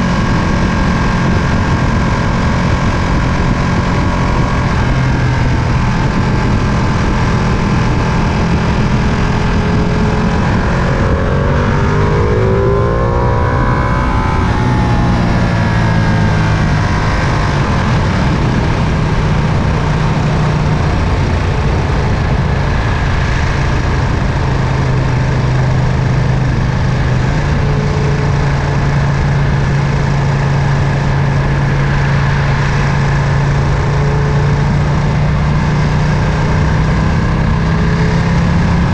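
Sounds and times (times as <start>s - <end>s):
motorcycle engine running: 0.0s - 38.9s
wind rushing: 0.0s - 38.9s.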